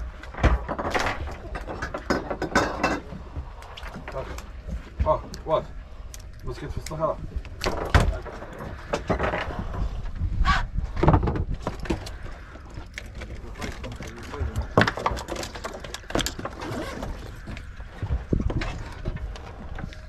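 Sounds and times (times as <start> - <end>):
wind and water against hull: 0.0 - 20.0.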